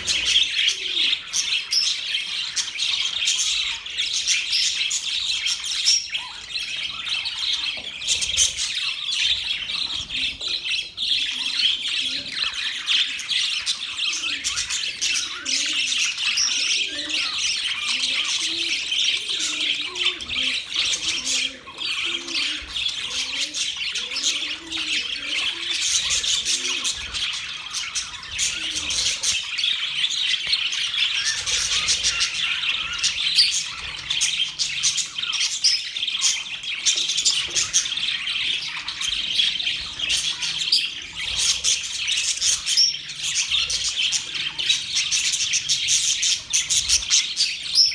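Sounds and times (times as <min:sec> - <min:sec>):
budgerigars chattering and chirping: 0:00.0 - 0:47.9.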